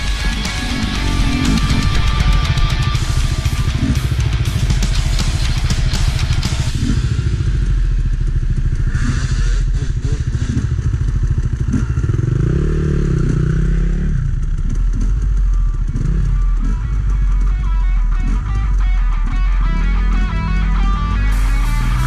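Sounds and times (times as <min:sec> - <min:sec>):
dirt bike engine revving: 0:00.0 - 0:22.0
dirt bike engines running: 0:00.0 - 0:22.0.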